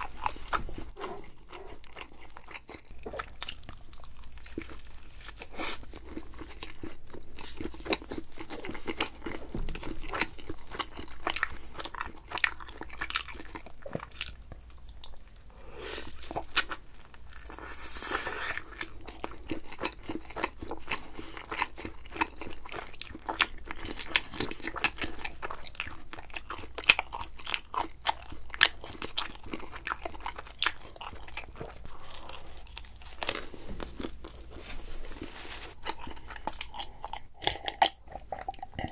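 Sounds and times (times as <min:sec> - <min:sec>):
crisp crunches of pizza: 0:00.0 - 0:38.5
wet chewing: 0:00.0 - 0:38.9.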